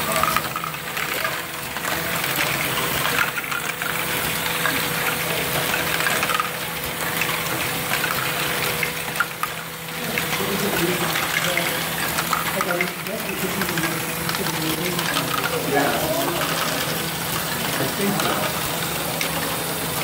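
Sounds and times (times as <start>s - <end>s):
plastic balls clattering through tracks: 0.0s - 20.0s.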